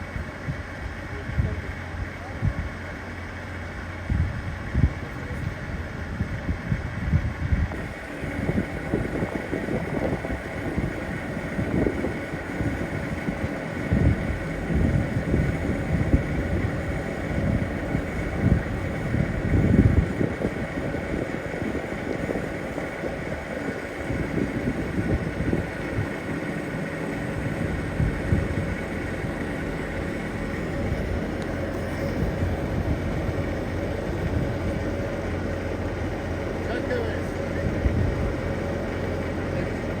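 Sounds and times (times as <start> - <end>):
moving train rumble: 0.0 - 40.0
wind buffeting microphone: 0.0 - 40.0.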